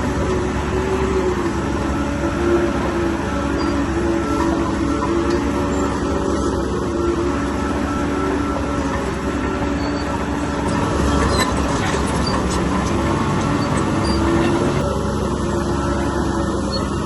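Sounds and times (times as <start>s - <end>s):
bulldozer diesel engine: 0.0s - 17.0s
steel tracks clanking and squealing: 0.0s - 17.0s.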